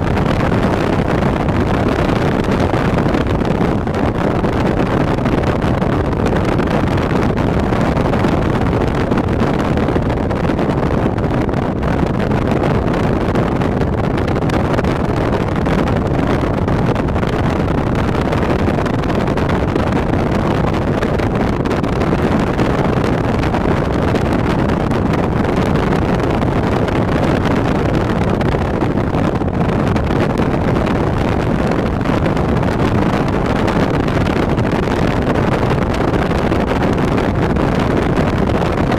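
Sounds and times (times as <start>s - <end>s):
car driving rumble: 0.0s - 38.9s
road noise: 0.0s - 38.9s
wind buffeting microphone: 0.0s - 38.9s.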